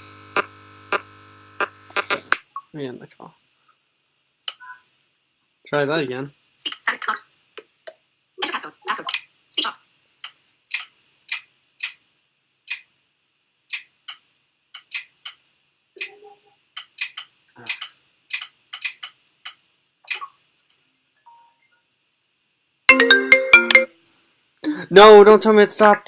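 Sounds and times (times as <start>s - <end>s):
faint steady hiss: 2.3s - 8.4s, 9.2s - 26.0s.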